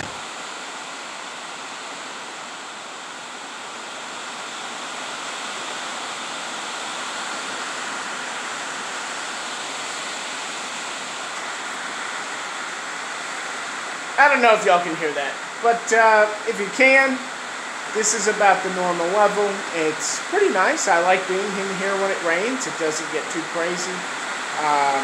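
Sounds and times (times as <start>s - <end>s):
hard rain on a tin roof: 0.0s - 25.0s.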